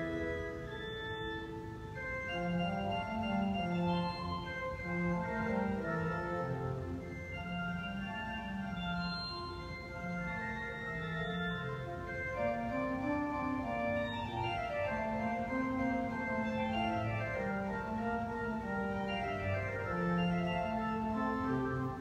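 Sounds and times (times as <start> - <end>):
pipe organ playing chords: 0.0 - 22.0.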